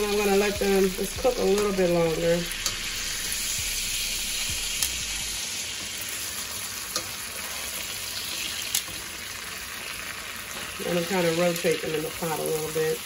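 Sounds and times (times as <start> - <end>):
mushrooms sizzling in a skillet: 0.0 - 13.0.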